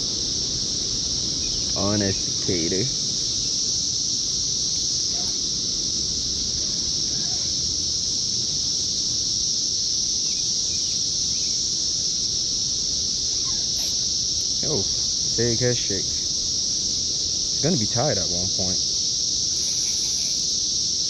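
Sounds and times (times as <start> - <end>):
low steady rumble: 0.0 - 19.6
cicadas droning: 0.0 - 21.0.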